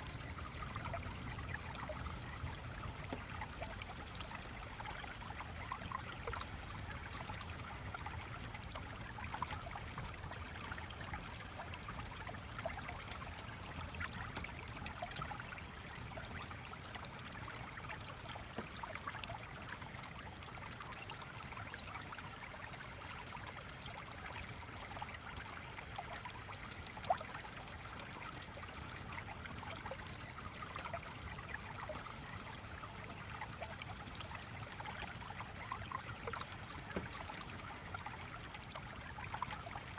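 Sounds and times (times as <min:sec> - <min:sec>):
stream trickling and bubbling: 0:00.0 - 0:39.9.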